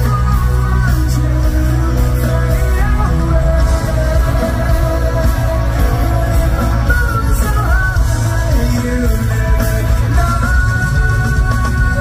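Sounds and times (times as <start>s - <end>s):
loud amplified music with heavy bass: 0.0s - 12.0s
man singing into a microphone: 0.0s - 12.0s.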